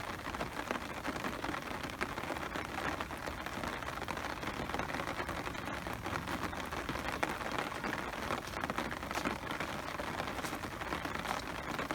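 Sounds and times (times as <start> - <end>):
raindrops ticking: 0.0 - 11.9
steady rain falling: 0.0 - 11.9.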